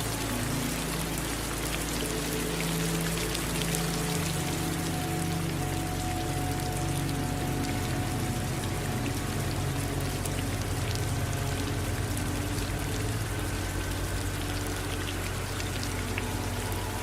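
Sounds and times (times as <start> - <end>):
running water: 0.0 - 17.0
steady rain: 0.0 - 17.0.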